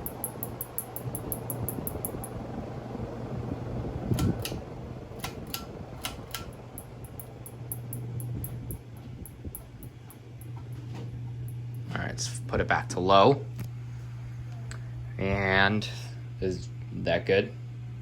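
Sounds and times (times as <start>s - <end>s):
air rushing from fan blades: 0.0s - 17.0s
ceiling fan motor hum: 0.0s - 18.0s.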